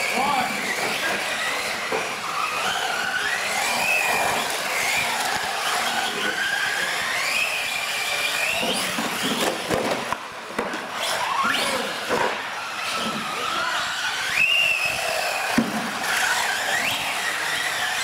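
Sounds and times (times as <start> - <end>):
toy truck motors whining: 0.0 - 18.0
small tyres hissing on concrete: 0.6 - 9.7, 10.9 - 18.0.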